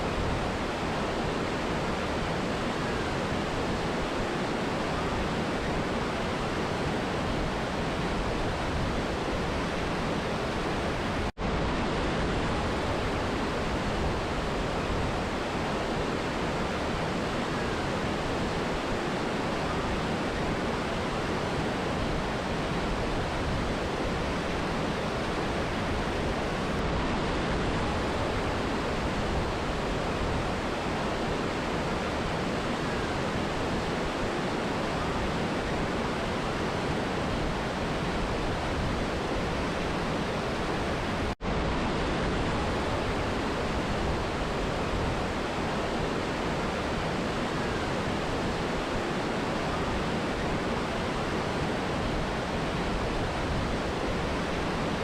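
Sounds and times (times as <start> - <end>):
river and waterfall rushing: 0.0 - 55.0.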